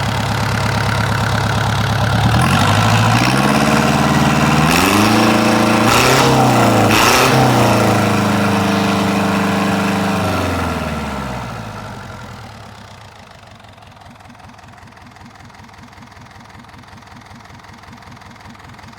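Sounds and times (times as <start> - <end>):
diesel engine running: 0.0 - 16.8.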